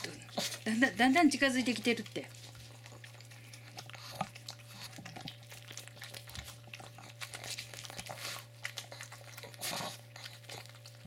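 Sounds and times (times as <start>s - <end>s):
dog licking treat: 0.0s - 11.0s.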